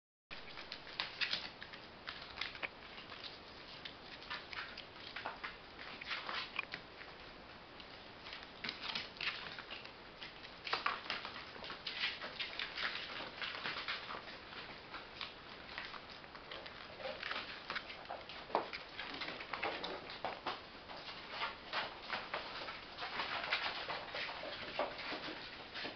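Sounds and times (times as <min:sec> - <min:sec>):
puppy claws pattering on floor: 0:00.4 - 0:25.9.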